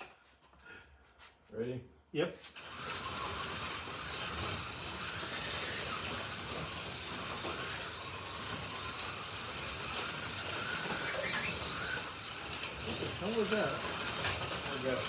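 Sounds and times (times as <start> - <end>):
rumble of gears and wheels: 2.6 - 15.0
slot car motors whining: 2.6 - 15.0.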